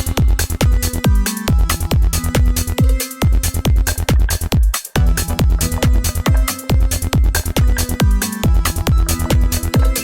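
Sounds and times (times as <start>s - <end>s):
electronic dance music: 0.0s - 10.0s
hi-hats ticking: 0.0s - 10.0s
kick drum beat: 0.0s - 10.0s.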